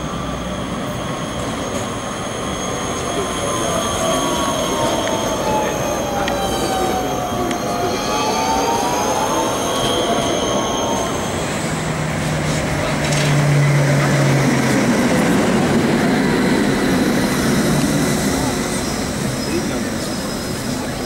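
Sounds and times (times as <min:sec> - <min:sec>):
street noise: 0:00.0 - 0:21.0
tram low hum: 0:00.0 - 0:21.0
tram wheels squealing on rails: 0:00.0 - 0:21.0
rumble of tram wheels: 0:03.0 - 0:10.5, 0:11.2 - 0:21.0.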